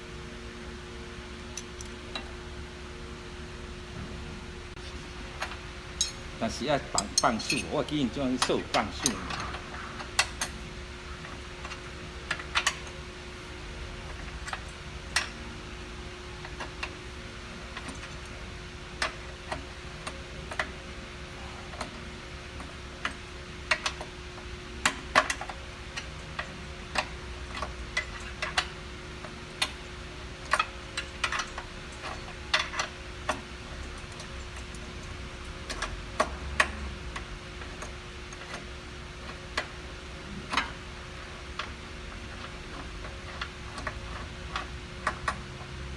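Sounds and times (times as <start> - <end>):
faint hum: 0.0 - 45.9.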